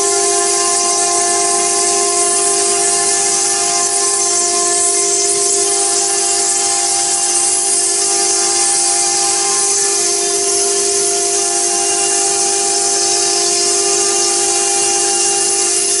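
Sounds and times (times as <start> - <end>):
spindle whine: 0.0 - 16.0.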